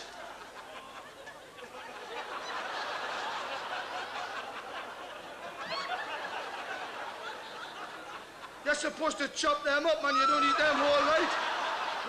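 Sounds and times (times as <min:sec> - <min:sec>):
audience laughing: 0:00.0 - 0:09.0, 0:10.6 - 0:12.0.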